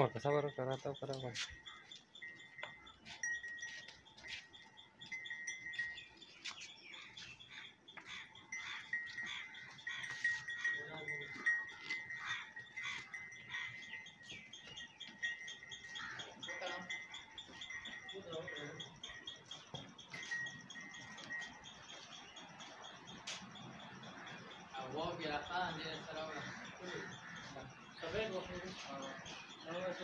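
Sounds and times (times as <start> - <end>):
farm animals calling: 0.0 - 30.0
high chirps: 0.0 - 30.0.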